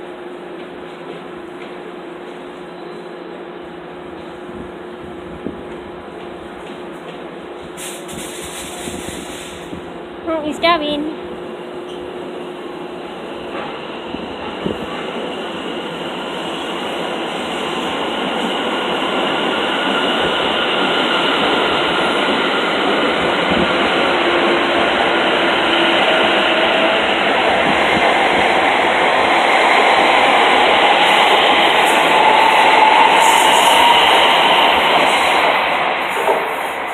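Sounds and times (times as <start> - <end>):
electric train running past: 0.0 - 36.9.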